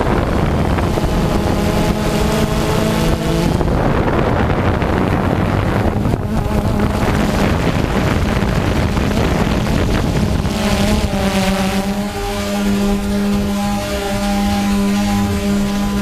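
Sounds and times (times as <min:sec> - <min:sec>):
drone propellers humming: 0:00.0 - 0:16.0
wind on microphone: 0:00.0 - 0:16.0.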